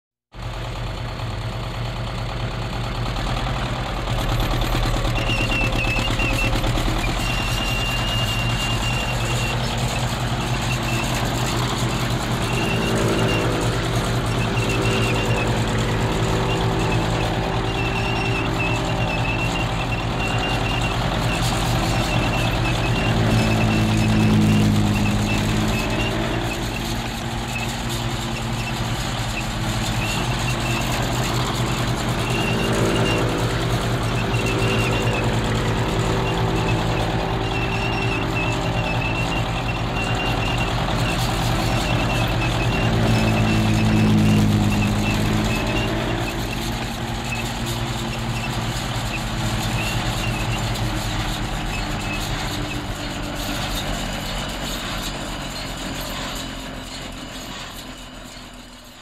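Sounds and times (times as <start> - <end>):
tank engines rumbling: 0.3 - 59.0
thin high squeal: 4.2 - 59.0.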